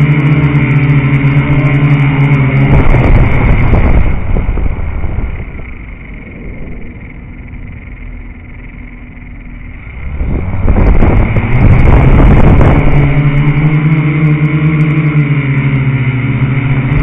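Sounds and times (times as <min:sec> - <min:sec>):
drone motors and propellers humming: 0:00.0 - 0:17.0.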